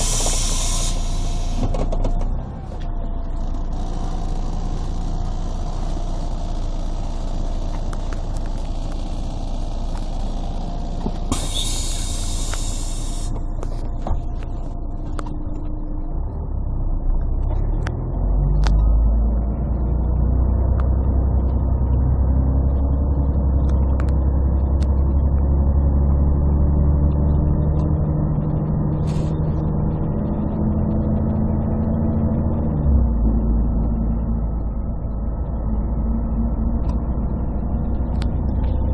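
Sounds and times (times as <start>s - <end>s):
bus diesel engine droning: 0.0s - 38.9s.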